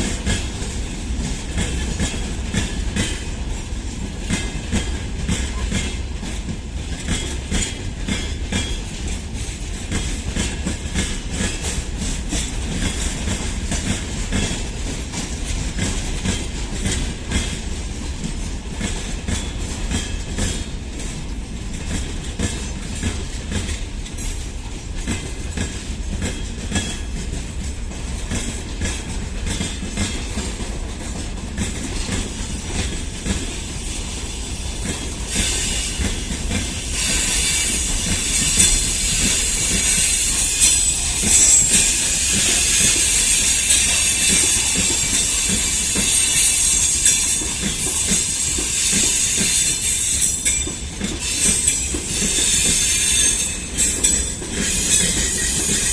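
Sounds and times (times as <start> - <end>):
low train rumble: 0.0 - 55.9
train wheels clicking over rails: 0.0 - 55.9.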